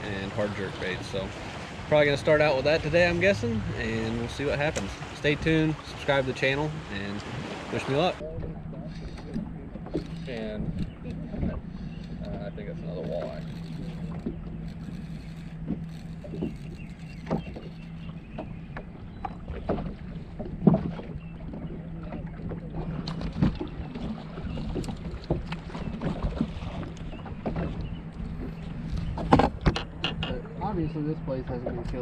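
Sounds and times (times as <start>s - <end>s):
water slapping against boat hull: 0.0s - 30.7s
steady low hum: 0.0s - 32.0s.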